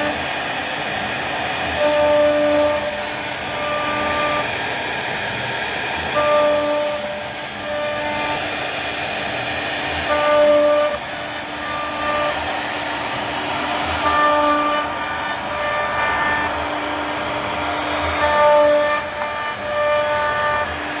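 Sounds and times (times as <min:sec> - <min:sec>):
router spindle cutting wood: 0:00.0 - 0:21.0.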